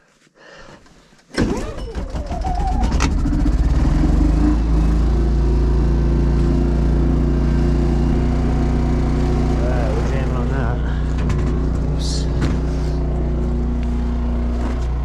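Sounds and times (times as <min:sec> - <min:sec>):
small generator engine starting: 0:01.3 - 0:15.0.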